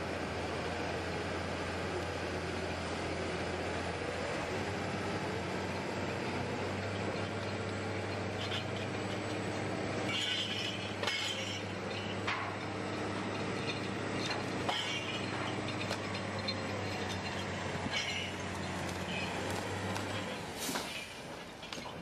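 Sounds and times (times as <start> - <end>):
engine humming steadily: 0.0 - 22.0
log hauled on cable: 1.0 - 22.0.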